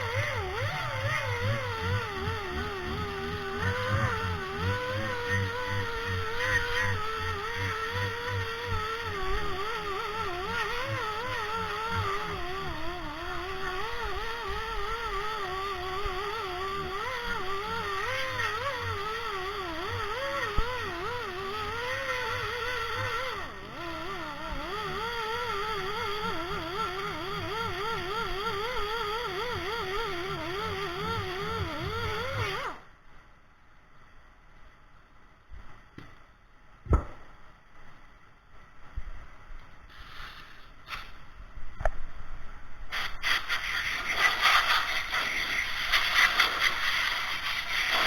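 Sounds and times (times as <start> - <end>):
small motor running: 0.0 - 32.9, 39.9 - 41.2, 42.9 - 48.0.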